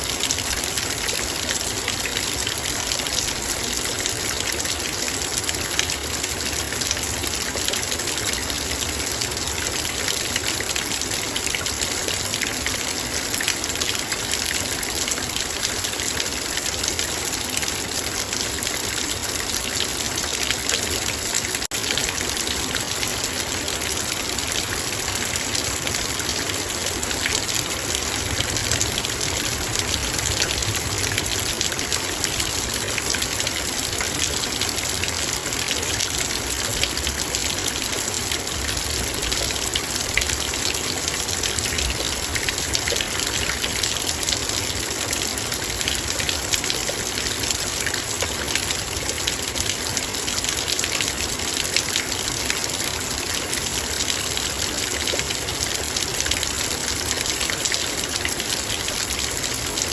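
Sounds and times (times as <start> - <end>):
rain on a metal bowl: 0.0 - 59.9.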